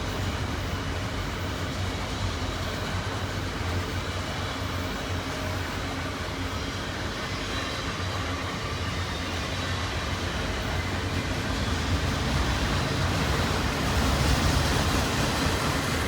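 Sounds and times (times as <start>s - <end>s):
steel wheels on rail: 0.0s - 16.0s.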